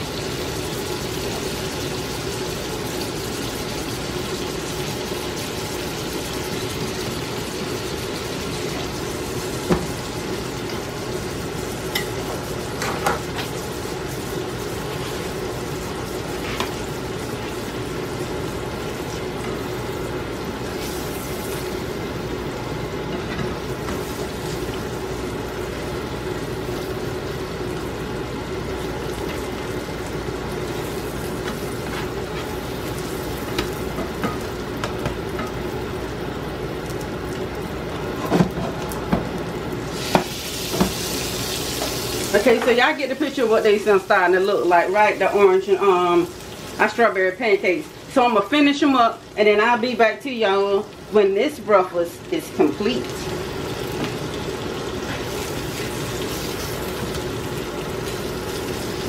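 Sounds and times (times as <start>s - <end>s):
pancakes sizzling in frying pan: 0.0s - 59.0s.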